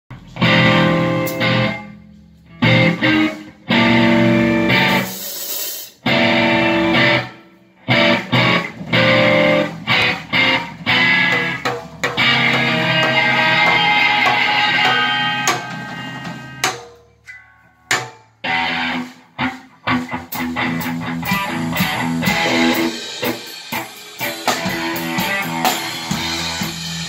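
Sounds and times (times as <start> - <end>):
electric guitar chords: 0.1 - 5.1, 5.9 - 27.0.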